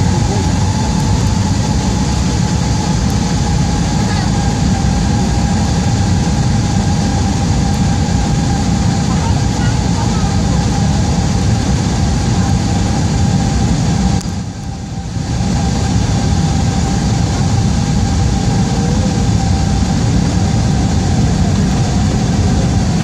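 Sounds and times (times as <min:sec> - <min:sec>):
aircraft cabin engine and airflow noise: 0:00.0 - 0:23.0
steady hum: 0:00.0 - 0:23.0.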